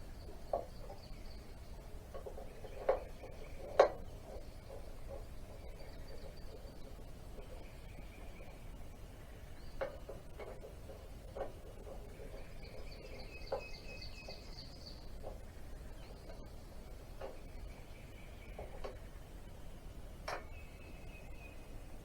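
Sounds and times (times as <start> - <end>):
bird singing: 0.0 - 22.0.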